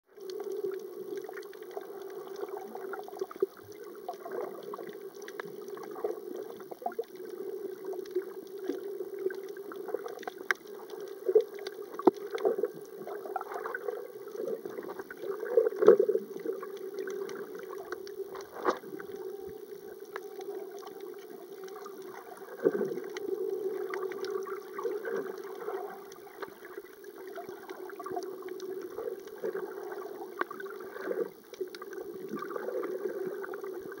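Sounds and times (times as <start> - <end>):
underwater low hum: 0.0 - 34.0
underwater clicks and crackles: 0.1 - 34.0
water movement swells: 0.1 - 34.0.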